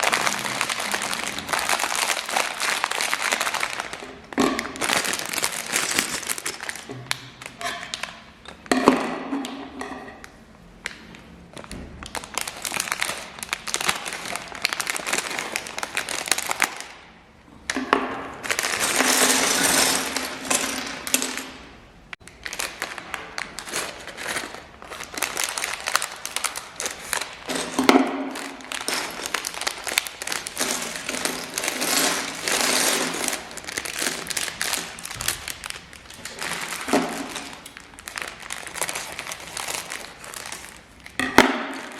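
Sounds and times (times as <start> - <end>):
plastic bags crinkling: 0.0 - 8.8, 10.8 - 17.1, 18.4 - 41.9.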